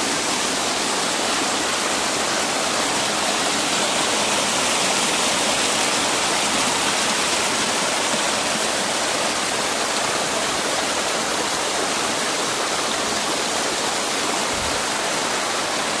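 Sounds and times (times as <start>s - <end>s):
creek rushing over rocks: 0.0s - 16.0s.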